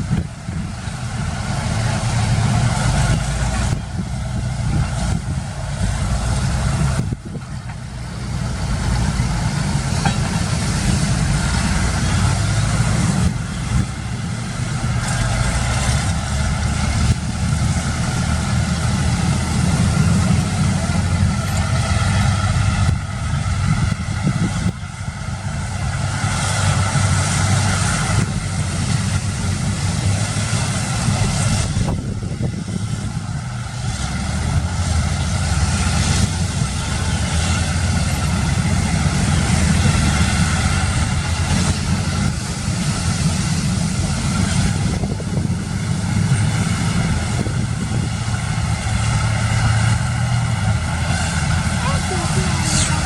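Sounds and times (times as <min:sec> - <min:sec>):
boat engine running: 0:00.0 - 0:53.0
wind: 0:00.0 - 0:53.0.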